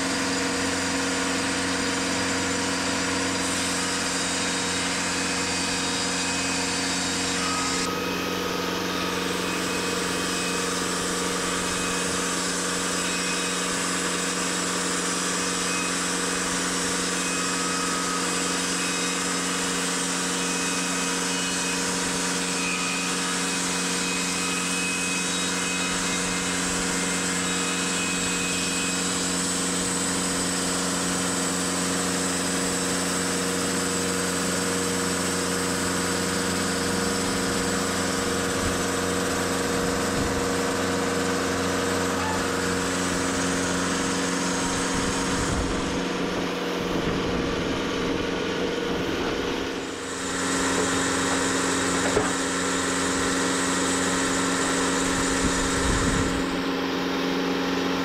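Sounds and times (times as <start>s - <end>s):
band blade cutting log: 0.0s - 58.0s
sawmill engine running: 0.0s - 58.0s.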